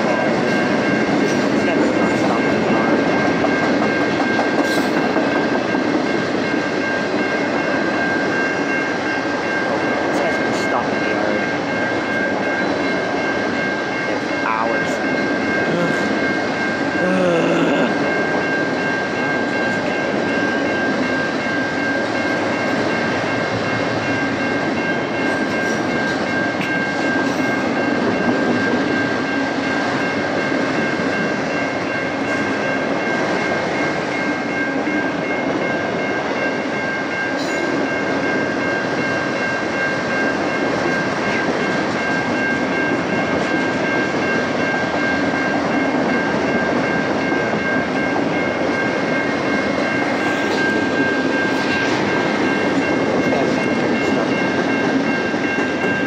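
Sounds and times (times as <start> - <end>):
steady high-pitched tone: 0.0 - 56.0
train wheels rumbling on rail: 0.0 - 56.0.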